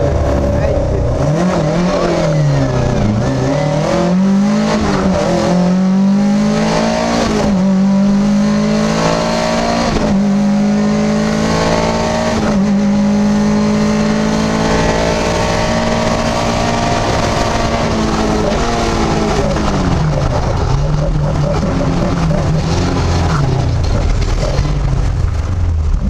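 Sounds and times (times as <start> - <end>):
rally car engine accelerating: 0.0 - 26.0.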